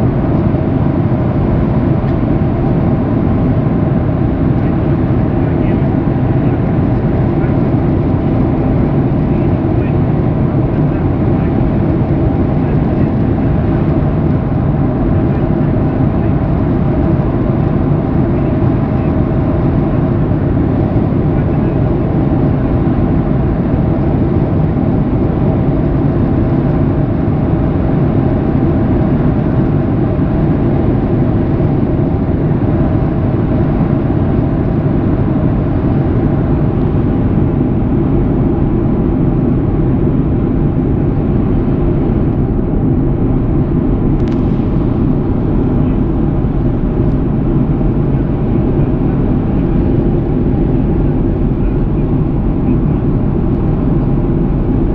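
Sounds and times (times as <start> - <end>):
faint steady hums: 0.0 - 54.9
jet engines and airflow rumble: 0.0 - 54.9.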